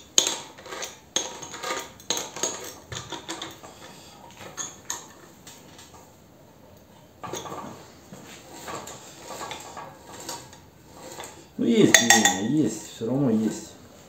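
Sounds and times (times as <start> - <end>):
metallic clinks and scrapes: 0.0 - 6.1, 7.2 - 13.0.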